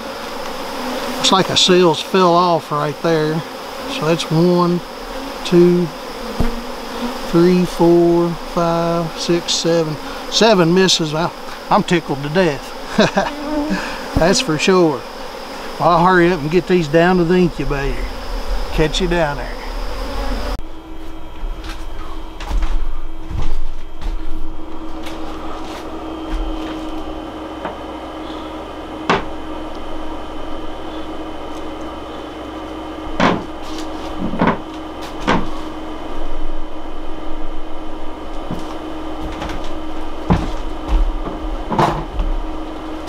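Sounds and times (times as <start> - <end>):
incubator humming: 0.0 - 43.0.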